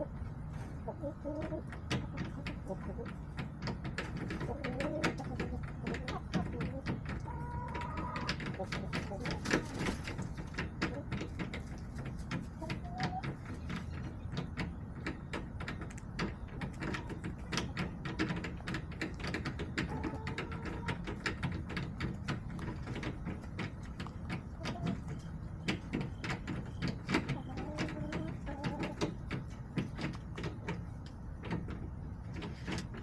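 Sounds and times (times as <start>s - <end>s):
hens clucking softly: 0.0s - 33.0s
hens pecking taps: 0.0s - 33.0s.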